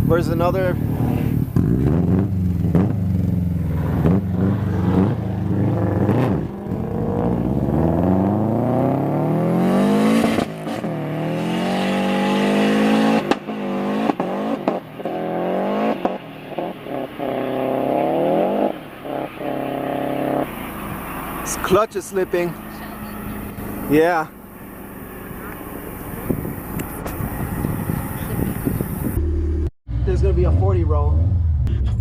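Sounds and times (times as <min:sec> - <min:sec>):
car engine accelerating hard: 0:00.0 - 0:32.0.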